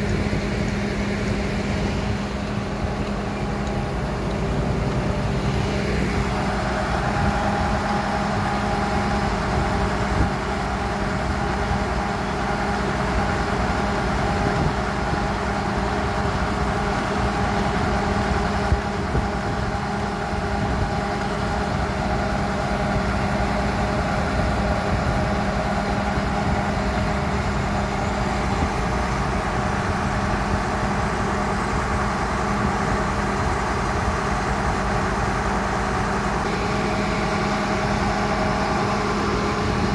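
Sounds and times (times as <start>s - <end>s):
drilling rig engine running: 0.0s - 39.9s
high steady whine: 0.0s - 39.9s.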